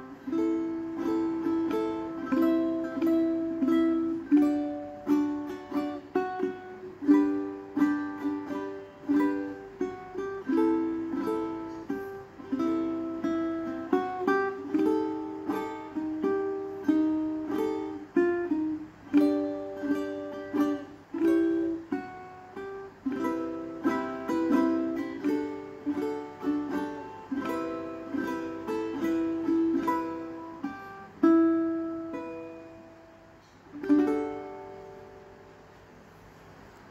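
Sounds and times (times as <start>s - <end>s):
ukulele melody: 0.0s - 36.9s.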